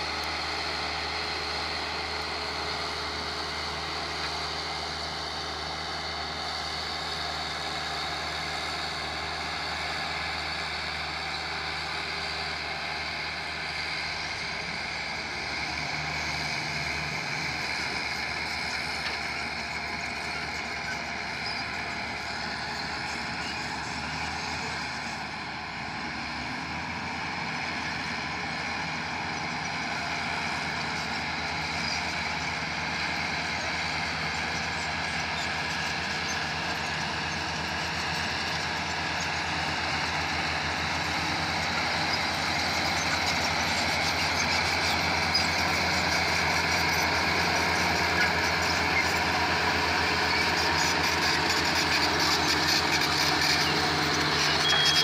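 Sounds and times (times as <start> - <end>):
road roller diesel engine: 0.0 - 55.0.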